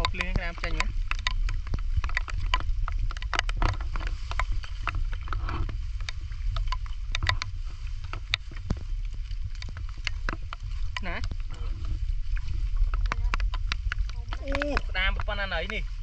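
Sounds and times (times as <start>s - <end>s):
feet squelching through wet mud: 0.0s - 16.0s
rain falling: 0.0s - 16.0s
sharp irregular clicks: 0.0s - 16.0s
steady low rumble: 0.0s - 16.0s.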